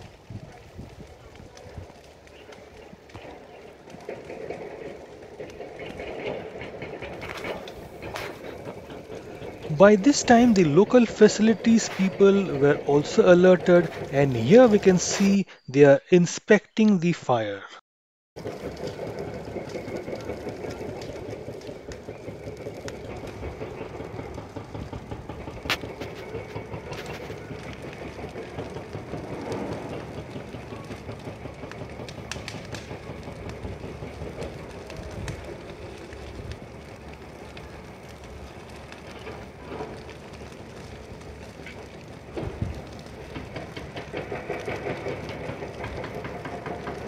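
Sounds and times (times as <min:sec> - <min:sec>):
sharp pops of fire: 0:00.0 - 0:15.4, 0:18.4 - 0:47.0
bush fire crackling: 0:00.0 - 0:17.6, 0:18.4 - 0:47.0.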